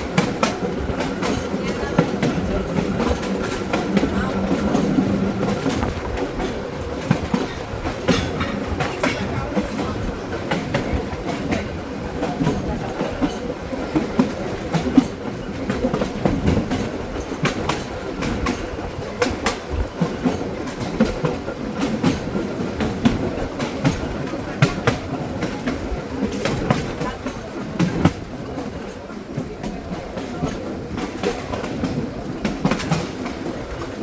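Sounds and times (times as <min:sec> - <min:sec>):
trolley car rumble: 0:00.0 - 0:34.0
wheels clacking and car rattling: 0:00.0 - 0:34.0.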